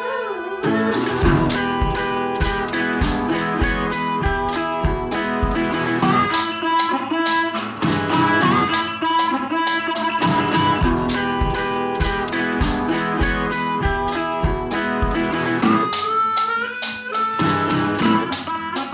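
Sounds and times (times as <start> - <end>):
plucked guitar music with beat: 0.6 - 18.9.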